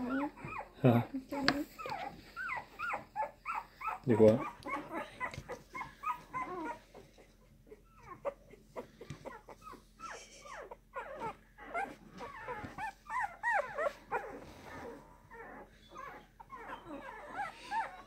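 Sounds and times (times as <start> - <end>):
puppy whimpering and squeaking: 0.0 - 18.0.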